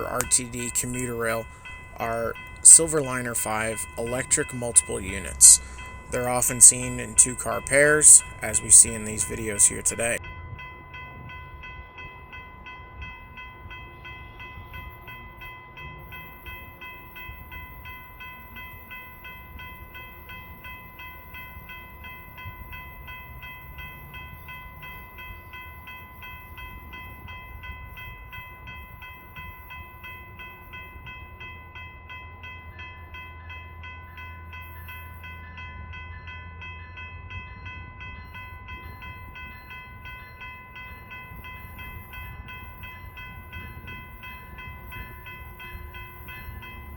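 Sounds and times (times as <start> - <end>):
crossing warning bell ringing: 0.0 - 46.9
train rumbling: 0.0 - 46.9.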